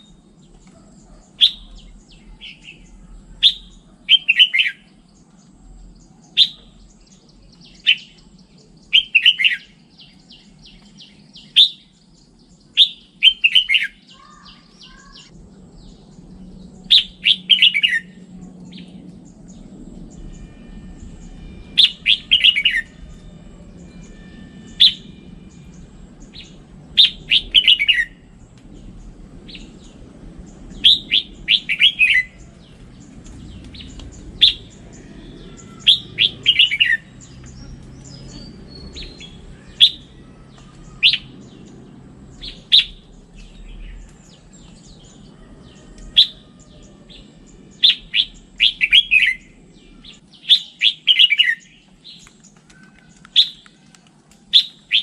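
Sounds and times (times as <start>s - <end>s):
faint low hum: 0.0s - 13.4s, 14.0s - 50.9s
bird singing: 0.0s - 55.0s.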